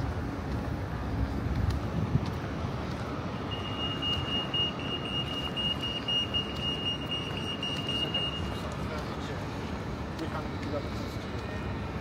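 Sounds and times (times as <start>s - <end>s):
city traffic rushing: 0.0s - 12.0s.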